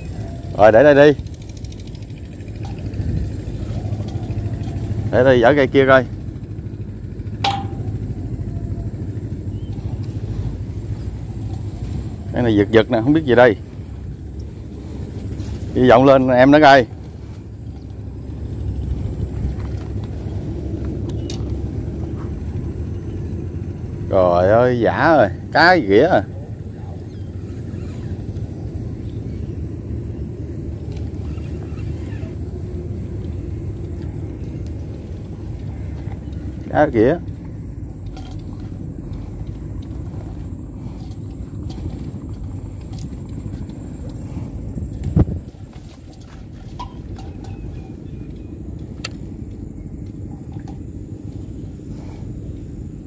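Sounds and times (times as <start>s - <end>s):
wind buffeting microphone: 0.0s - 24.1s, 24.8s - 53.0s
distant motor rumble: 0.0s - 53.0s.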